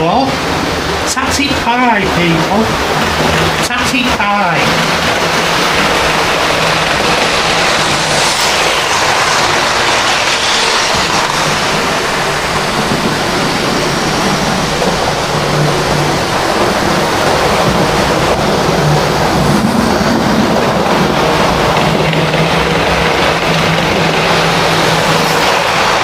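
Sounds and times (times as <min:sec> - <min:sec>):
train running: 0:00.0 - 0:26.0.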